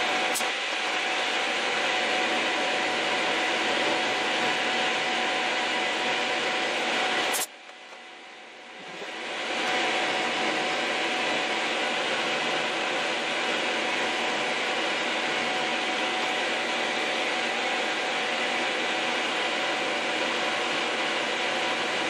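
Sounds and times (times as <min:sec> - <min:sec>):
milling machine cutting metal whine: 0:00.0 - 0:07.5, 0:08.6 - 0:22.0.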